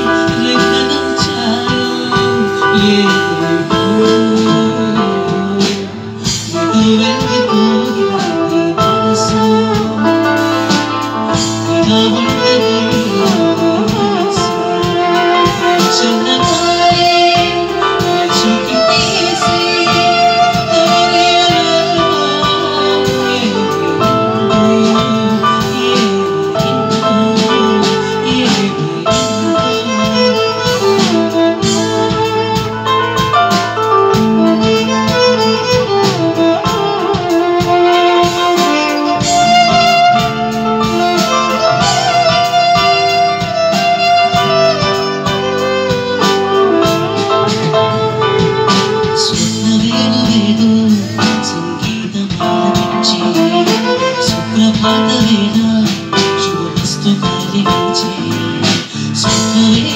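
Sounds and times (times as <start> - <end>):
guitar: 0.0 - 59.9
steady drum beat: 0.0 - 59.9
violin melody: 0.0 - 59.9.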